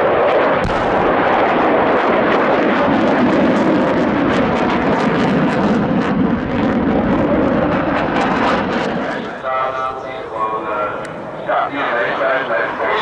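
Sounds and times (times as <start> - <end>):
fighter jets flying overhead: 0.0 - 13.0.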